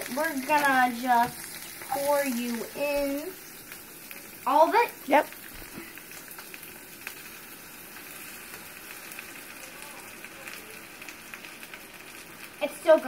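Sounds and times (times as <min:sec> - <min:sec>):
eggs sizzling in a frying pan: 0:00.0 - 0:13.0
faint crackles: 0:00.0 - 0:13.0.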